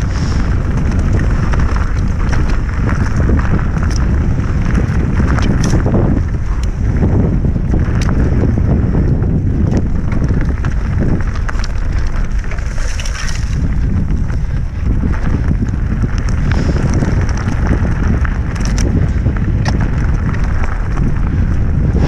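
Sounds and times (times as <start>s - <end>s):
bike rattling clicks and knocks: 0.0s - 22.0s
tyres crunching on gravel: 0.0s - 22.0s
wind buffeting microphone: 0.0s - 22.0s.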